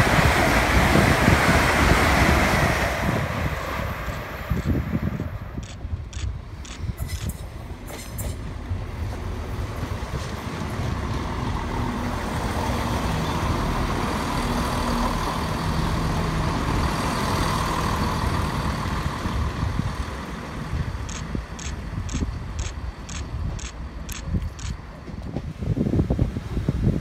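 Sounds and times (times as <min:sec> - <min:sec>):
diesel train engines humming: 0:00.0 - 0:27.0
train wheels rumbling on rails: 0:00.0 - 0:27.0.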